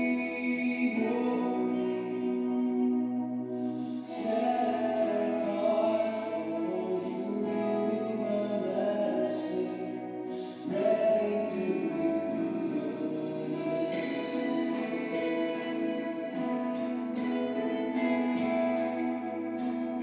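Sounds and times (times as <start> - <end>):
quiet music of held notes: 0.0 - 20.0.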